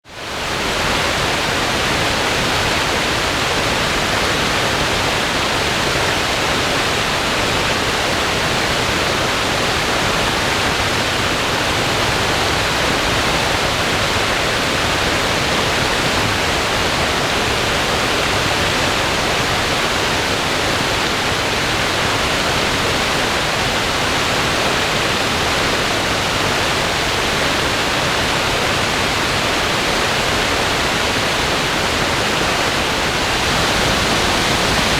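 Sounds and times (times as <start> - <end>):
creek rushing: 0.2 - 34.9.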